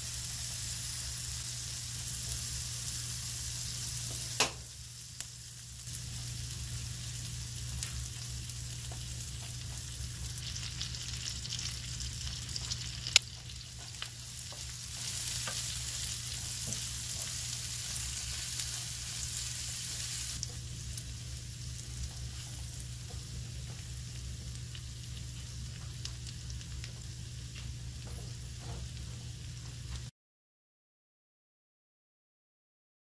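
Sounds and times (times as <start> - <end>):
anchovies sizzling in frying pan: 0.0 - 30.1.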